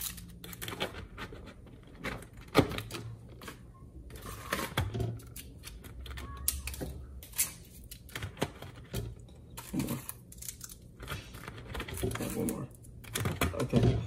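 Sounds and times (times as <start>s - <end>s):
aluminum foil crinkling: 0.0s - 4.6s, 5.2s - 13.7s.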